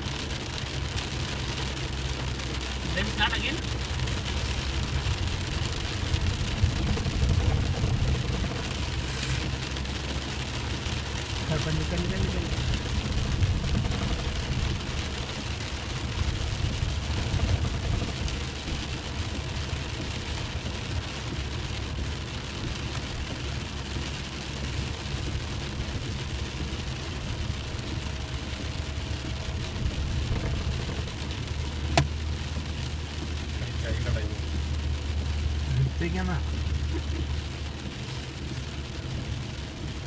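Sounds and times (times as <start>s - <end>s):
vehicle engine and tyres rumbling: 0.0s - 40.0s.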